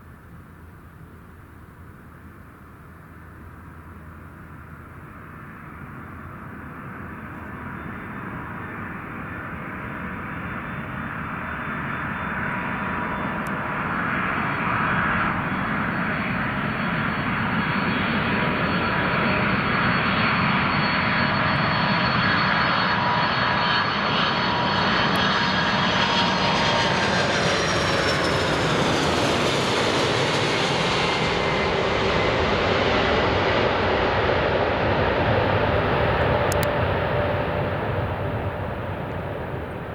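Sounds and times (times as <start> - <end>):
jet engines with high fan whine: 0.0 - 39.9.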